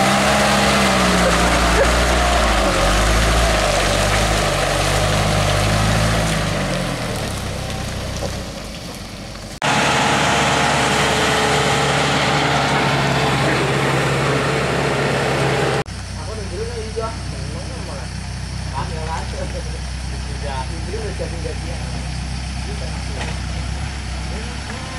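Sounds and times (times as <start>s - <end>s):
truck engine running: 0.0s - 24.9s.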